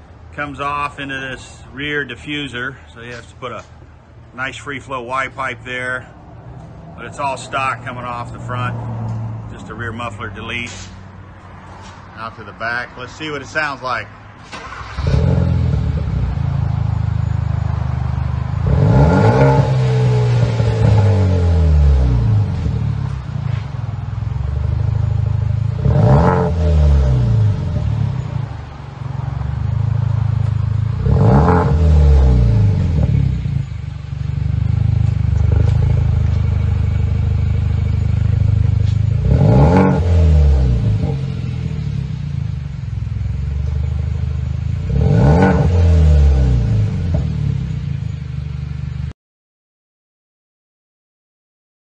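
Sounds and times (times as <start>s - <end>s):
car engine idling and revving: 0.0s - 49.1s.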